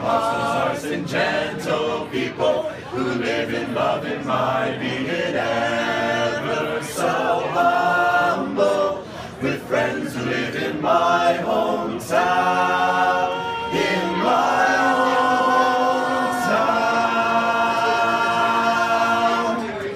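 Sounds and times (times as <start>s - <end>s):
male a cappella group singing: 0.0s - 19.9s.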